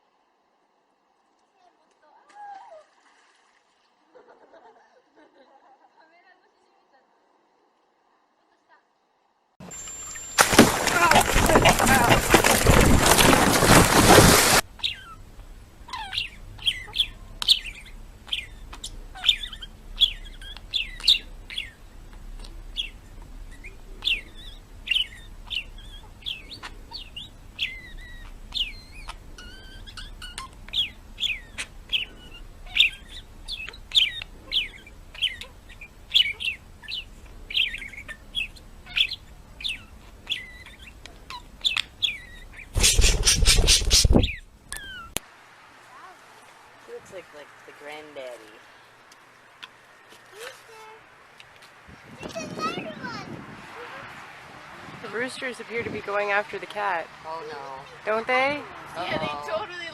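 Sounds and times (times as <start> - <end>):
birds chirping: 9.6 - 45.2, 46.9 - 59.9.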